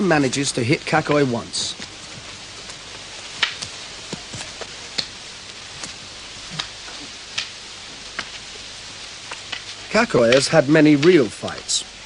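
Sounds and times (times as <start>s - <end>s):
steady hiss: 0.0s - 12.0s
wooden sticks clacking: 0.9s - 8.5s, 9.2s - 11.7s.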